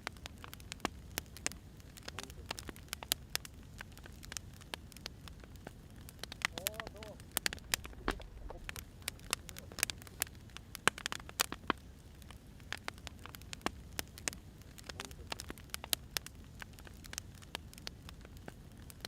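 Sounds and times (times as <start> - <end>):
firewood fire crackling: 0.0 - 19.0.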